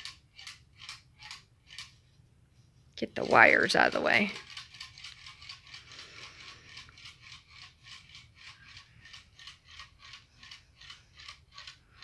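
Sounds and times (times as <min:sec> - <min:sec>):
ceiling fan ticking: 0:00.0 - 0:02.1, 0:03.0 - 0:12.0.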